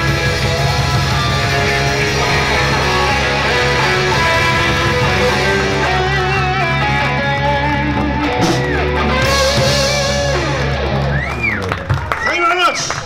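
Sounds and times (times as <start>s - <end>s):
lead guitar bending notes: 0.0s - 12.1s
live rock band playing: 0.0s - 13.0s.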